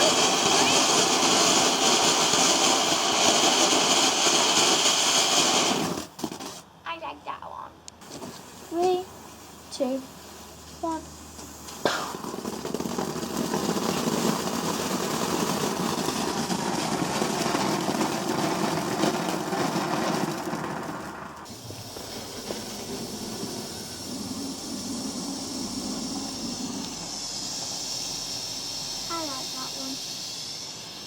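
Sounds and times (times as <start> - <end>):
firework fountain crackling hiss: 0.0 - 31.0.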